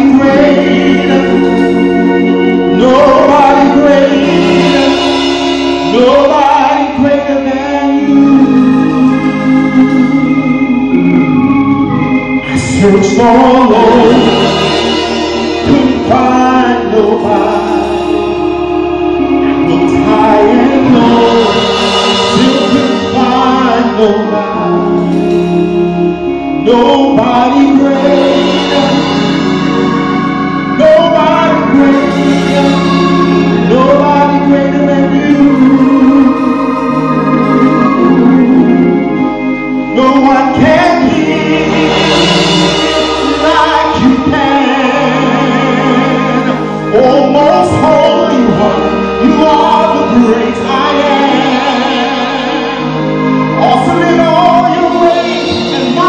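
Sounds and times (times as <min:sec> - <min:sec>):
gospel singing: 0:00.0 - 0:56.0
instrumental accompaniment with chords: 0:00.0 - 0:56.0
steady bass notes: 0:00.0 - 0:56.0.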